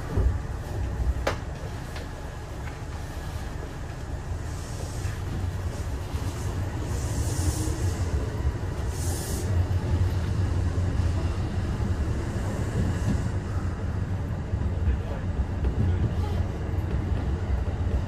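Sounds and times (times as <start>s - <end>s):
train rumble with rail noise: 0.0s - 18.0s.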